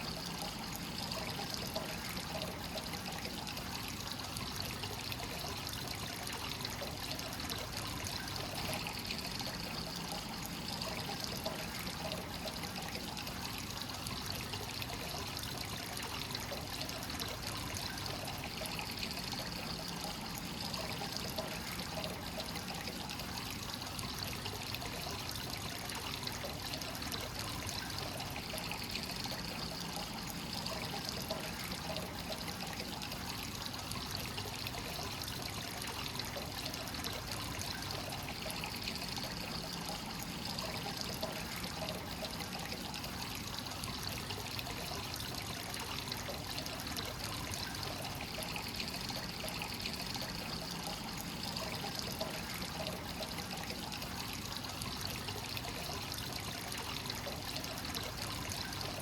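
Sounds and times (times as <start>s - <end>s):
water pouring into a bath: 0.0s - 59.0s.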